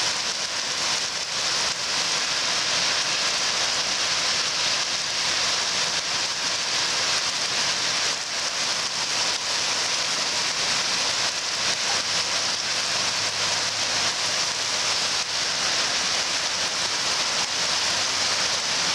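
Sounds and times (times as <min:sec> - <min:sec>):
heavy rain pouring: 0:00.0 - 0:18.9.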